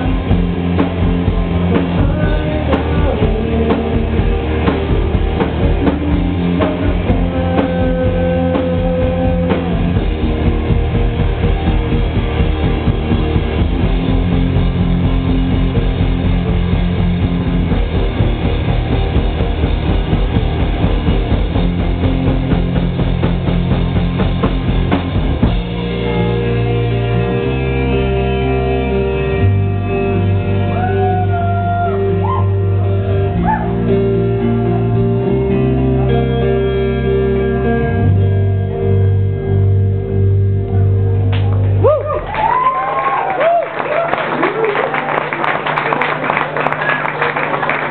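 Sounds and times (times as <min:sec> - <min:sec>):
guitars ringing held chords: 0:00.0 - 0:31.2, 0:32.0 - 0:41.3
rock band playing: 0:00.0 - 0:47.9.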